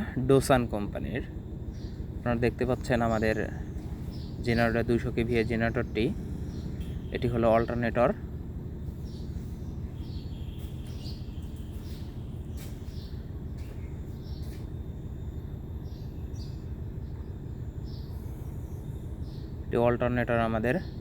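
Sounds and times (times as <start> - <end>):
low background rumble: 0.0 - 20.9
birds chirping: 0.0 - 21.0.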